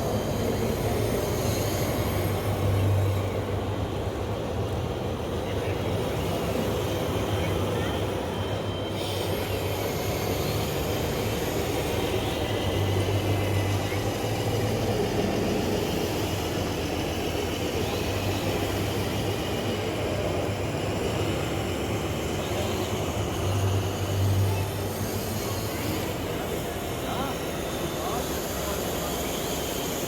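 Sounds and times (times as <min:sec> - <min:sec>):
electric motor whine: 0:00.0 - 0:30.0.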